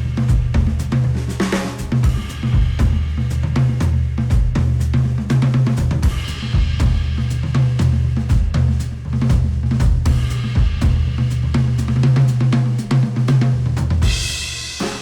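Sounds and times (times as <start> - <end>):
bass line: 0.0 - 14.4
drum kit playing a steady beat: 0.0 - 15.0.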